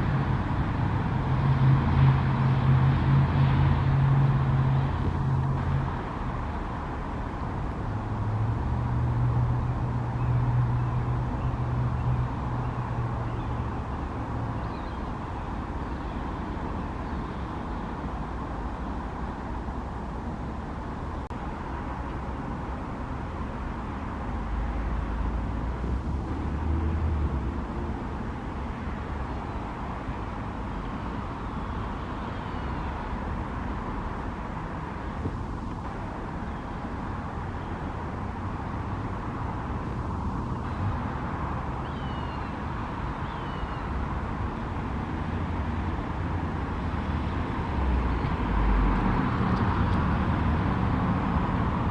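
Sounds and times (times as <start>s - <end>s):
road traffic rumble: 0.0s - 51.9s.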